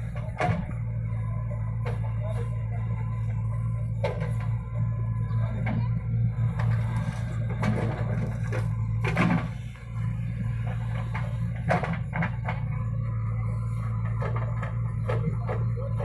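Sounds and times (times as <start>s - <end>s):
diesel engine running: 0.0s - 16.0s
falling earth: 0.0s - 16.0s.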